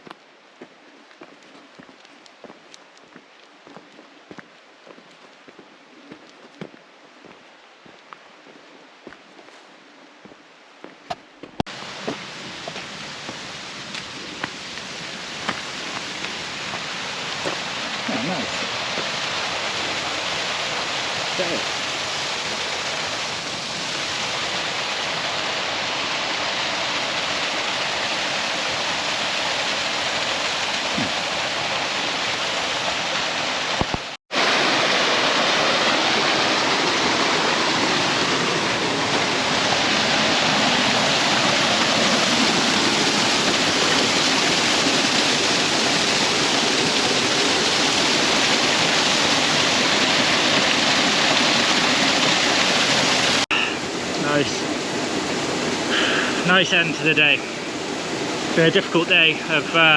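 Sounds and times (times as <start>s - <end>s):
waterfall rushing: 11.7s - 59.9s.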